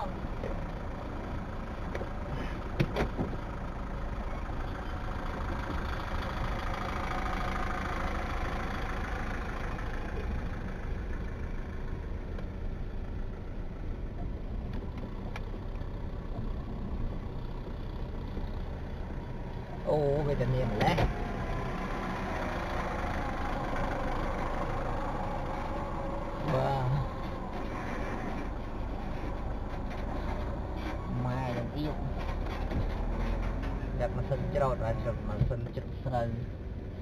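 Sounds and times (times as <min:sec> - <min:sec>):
road noise: 0:00.0 - 0:37.0
vehicle engine running: 0:00.0 - 0:37.0.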